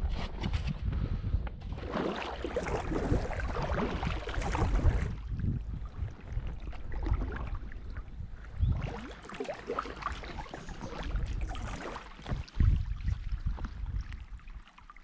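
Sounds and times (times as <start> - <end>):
wind rumble on microphone: 0.0 - 15.0
water splashing around kayak: 1.6 - 15.0.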